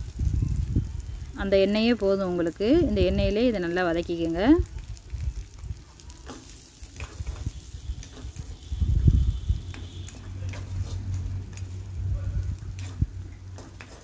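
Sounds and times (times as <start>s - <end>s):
faint oil sizzle: 0.0s - 14.0s.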